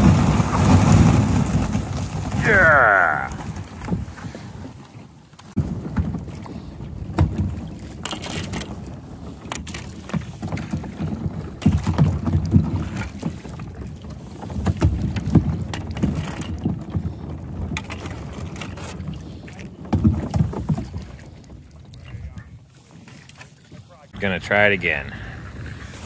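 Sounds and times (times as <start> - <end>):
ice cracking against kayak hull: 0.0 - 21.6.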